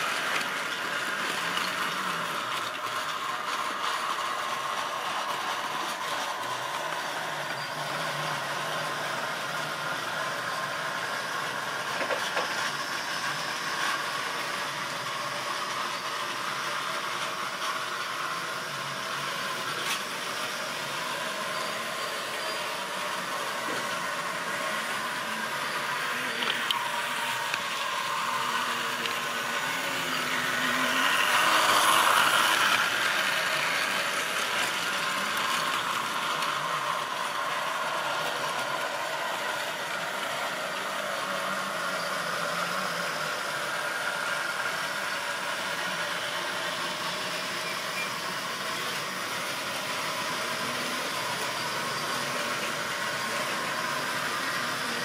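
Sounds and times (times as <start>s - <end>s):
model train whirring on track: 0.0s - 55.0s.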